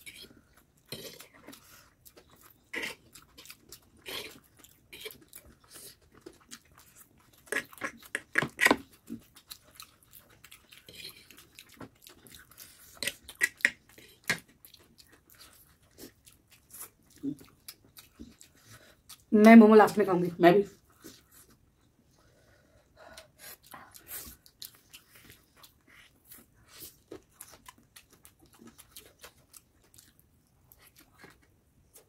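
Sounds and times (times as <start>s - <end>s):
people chewing food: 0.0s - 20.0s, 20.6s - 32.0s.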